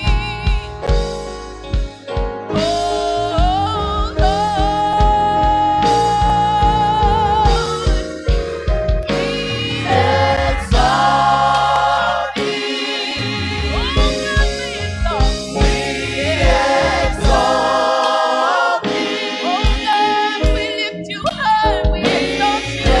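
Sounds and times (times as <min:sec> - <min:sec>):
live band accompaniment: 0:00.0 - 0:23.0
steady drum beat: 0:00.0 - 0:23.0
woman singing gospel: 0:02.6 - 0:08.1, 0:09.1 - 0:23.0.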